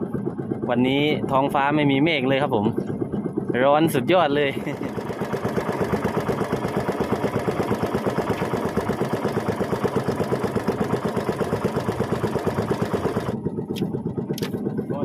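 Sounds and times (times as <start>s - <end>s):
small boat engine throbbing: 0.0s - 15.0s.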